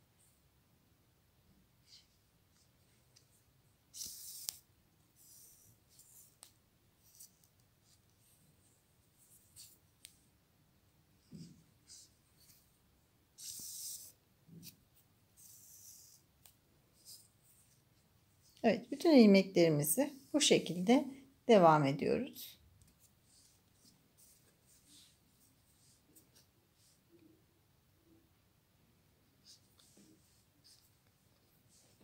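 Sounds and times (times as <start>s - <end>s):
scratchy rustling of yarn: 1.7s - 10.4s, 11.1s - 27.4s, 29.2s - 32.0s.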